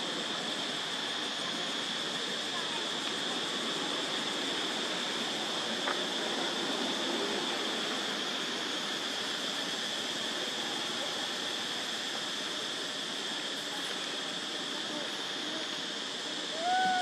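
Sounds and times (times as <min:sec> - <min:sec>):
even hiss: 0:00.0 - 0:17.0
high-pitched insect drone: 0:00.0 - 0:17.0.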